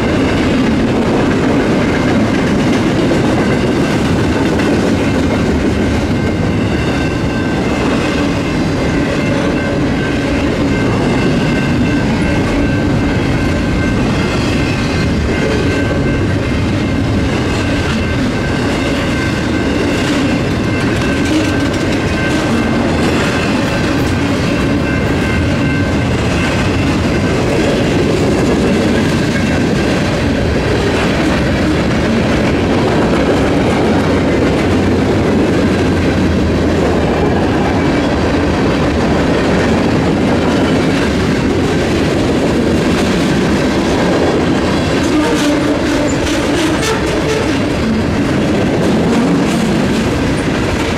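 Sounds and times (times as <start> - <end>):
freight train rumbling past: 0.0 - 50.9
wheels clacking over rails: 0.0 - 50.9.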